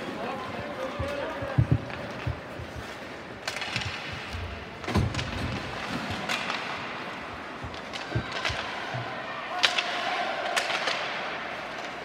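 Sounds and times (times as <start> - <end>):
skates and sticks on ice: 0.0 - 12.0.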